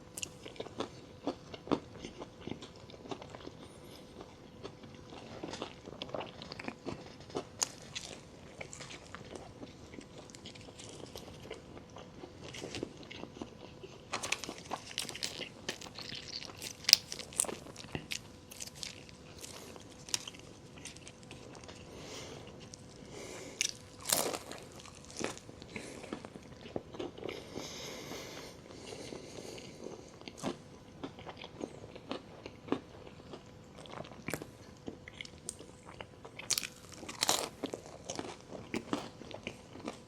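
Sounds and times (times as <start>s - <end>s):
crunching bites and chewing: 0.1s - 27.4s, 29.6s - 40.0s.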